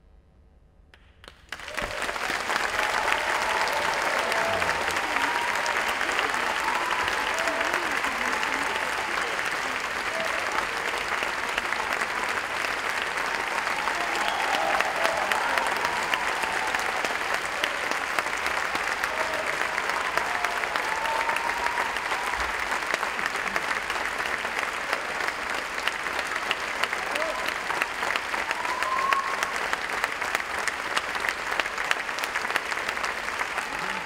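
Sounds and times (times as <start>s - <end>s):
large audience applauding: 1.2s - 34.0s.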